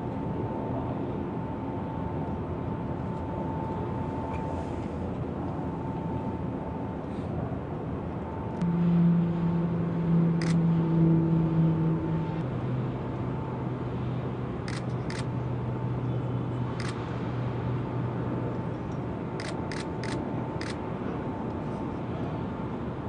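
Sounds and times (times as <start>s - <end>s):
crane machinery humming: 0.0s - 23.0s
outdoor noise: 0.0s - 23.0s.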